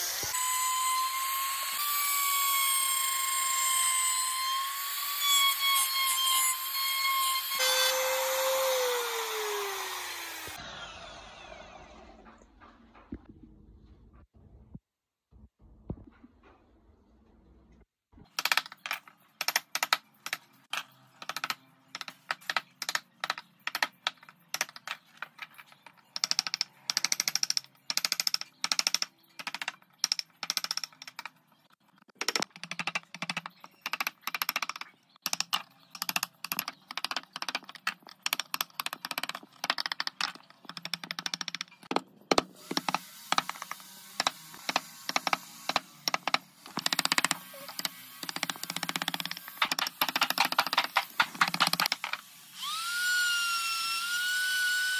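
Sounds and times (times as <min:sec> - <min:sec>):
hand tools carving wood: 0:00.0 - 0:10.6, 0:18.4 - 0:31.4, 0:32.0 - 0:54.9.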